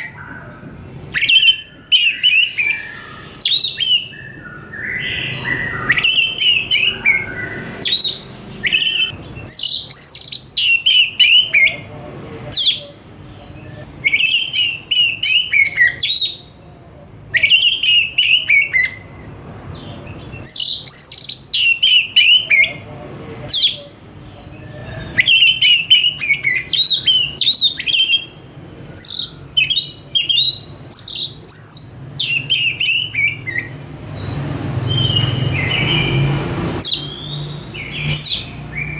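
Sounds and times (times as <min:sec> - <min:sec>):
bird singing whistles and chirps: 0:00.0 - 0:11.8, 0:12.5 - 0:16.5, 0:17.3 - 0:22.8, 0:24.5 - 0:38.9.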